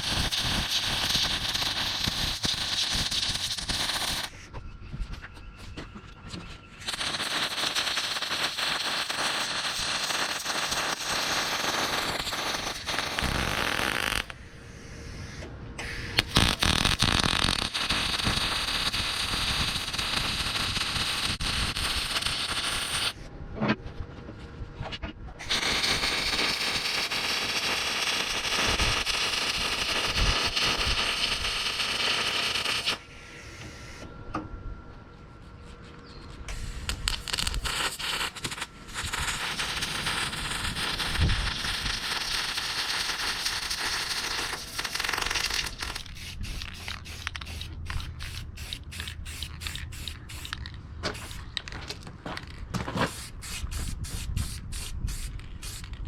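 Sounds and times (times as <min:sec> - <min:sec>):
arc welder crackling hiss: 0:00.0 - 0:04.5, 0:06.8 - 0:14.4, 0:15.2 - 0:23.2, 0:25.4 - 0:34.0, 0:36.5 - 0:51.7, 0:52.8 - 0:56.0.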